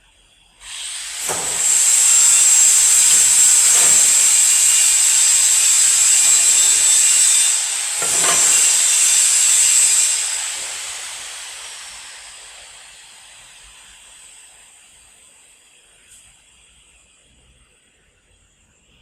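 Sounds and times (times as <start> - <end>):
compressed air hissing: 0.6 - 17.1.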